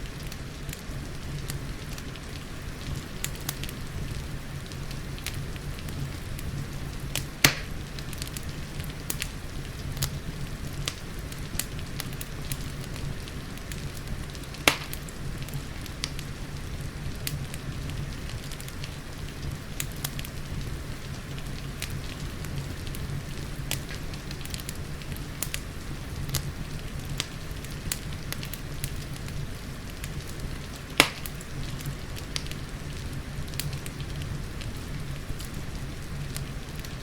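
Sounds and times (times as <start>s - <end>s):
rain hissing and rumbling: 0.0s - 37.0s
wood fire crackling and popping: 0.0s - 37.0s.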